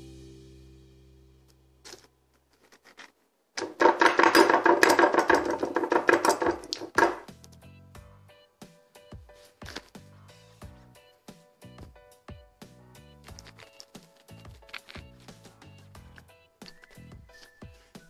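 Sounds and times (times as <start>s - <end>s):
background music: 0.0s - 1.8s, 4.0s - 18.0s.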